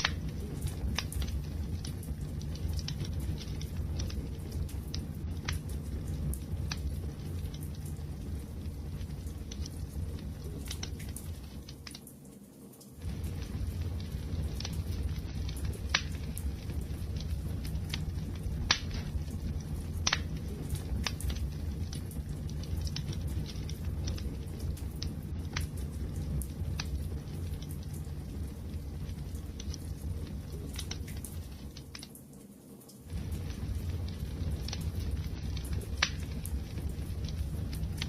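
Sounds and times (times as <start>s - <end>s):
flame rumble: 0.0s - 32.1s, 32.8s - 38.0s
wood fire popping and snapping: 0.0s - 38.0s.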